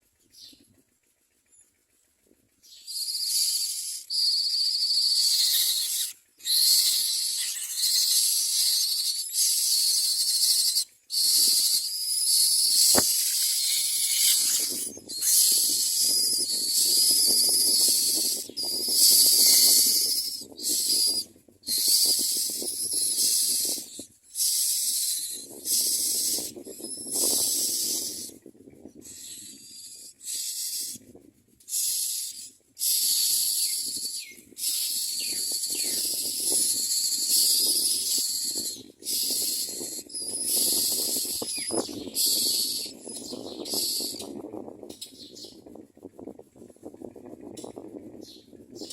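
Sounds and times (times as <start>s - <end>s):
nestlings begging with raspy calls: 2.7s - 28.3s, 29.1s - 31.0s, 31.7s - 44.3s.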